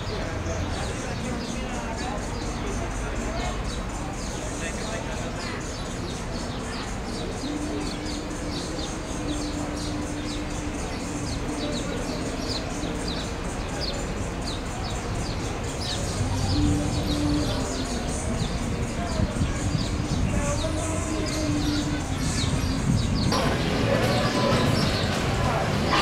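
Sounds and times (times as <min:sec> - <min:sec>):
background noise haze: 0:00.0 - 0:26.0
small birds chirping: 0:00.0 - 0:26.0.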